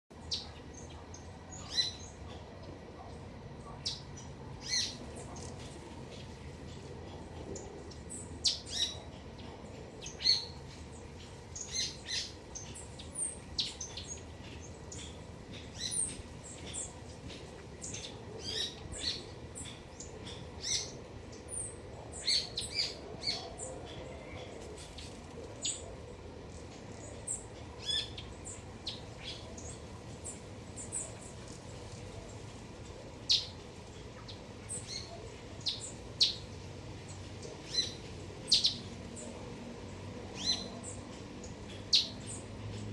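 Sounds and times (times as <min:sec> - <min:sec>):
garden birds chirping: 0:00.1 - 0:42.9.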